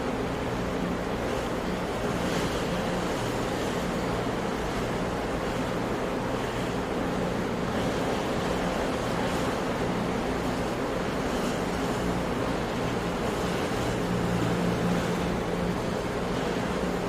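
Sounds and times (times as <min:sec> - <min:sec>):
sea surf washing: 0:00.0 - 0:17.0.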